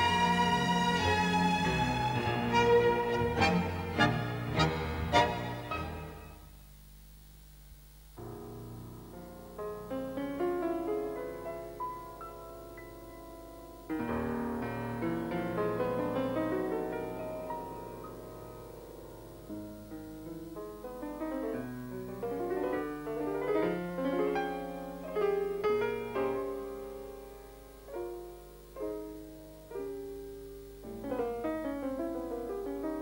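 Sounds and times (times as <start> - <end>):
piano music: 0.0 - 6.5, 8.7 - 30.2, 31.0 - 33.0.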